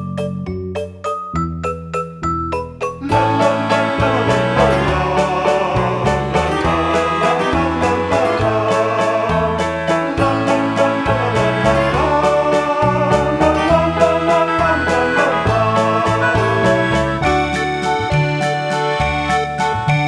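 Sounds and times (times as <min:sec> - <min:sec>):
upbeat plucked string music: 0:00.0 - 0:20.0.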